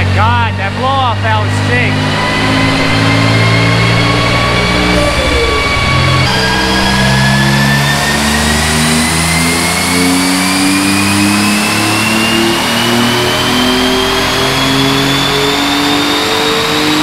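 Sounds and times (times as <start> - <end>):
car engine revving: 0.0 - 17.0
high whine rising in pitch: 0.0 - 17.0.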